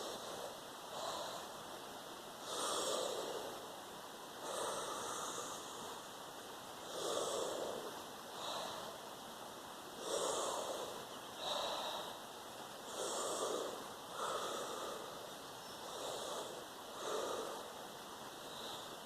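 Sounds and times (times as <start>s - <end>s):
person breathing deeply: 0.0s - 1.7s, 2.4s - 3.8s, 4.4s - 6.2s, 6.8s - 9.1s, 10.0s - 19.0s.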